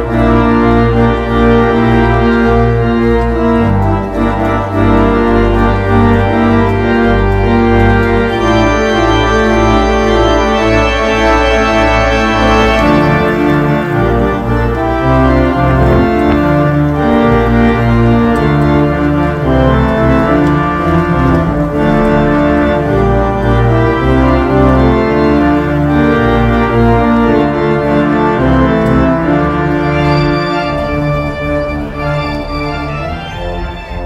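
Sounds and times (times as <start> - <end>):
organ chords: 0.0 - 34.0.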